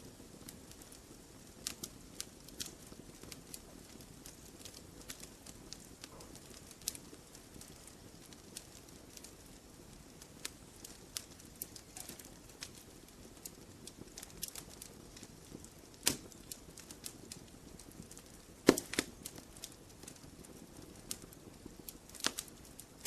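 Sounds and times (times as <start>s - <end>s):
fire hissing: 0.0s - 23.0s
fire snapping and popping: 0.0s - 23.0s.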